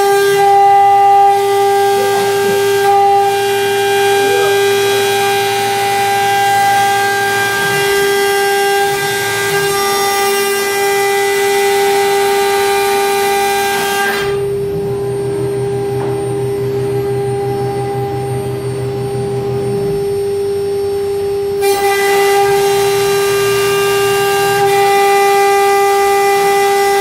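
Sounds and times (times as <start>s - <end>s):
low pulsing buzz: 0.0s - 27.0s
router spindle high whine: 0.0s - 27.0s.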